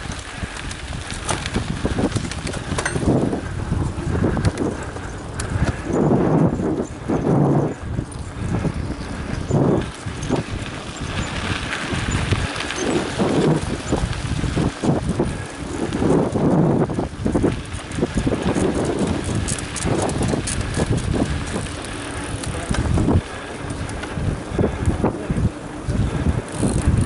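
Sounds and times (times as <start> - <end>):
bike knocks and rattles: 0.0 - 27.0
bike tyres rolling on dirt trail: 0.0 - 27.0
wind on microphone: 0.0 - 27.0.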